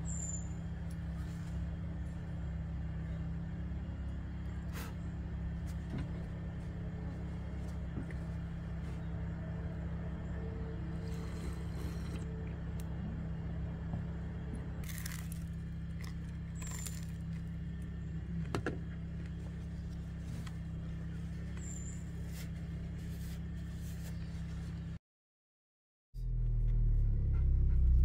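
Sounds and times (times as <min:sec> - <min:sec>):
generator humming: 0:00.0 - 0:25.0.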